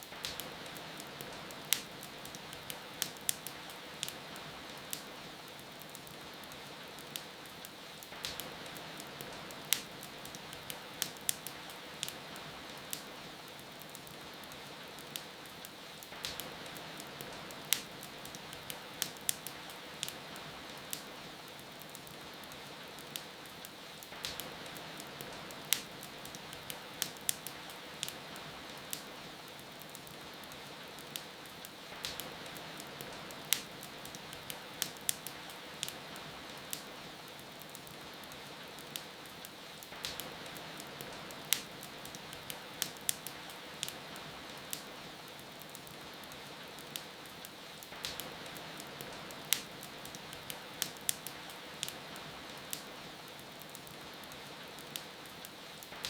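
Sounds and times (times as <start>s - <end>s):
rain falling: 0.0s - 56.0s
wood fire crackling and popping: 0.0s - 56.0s.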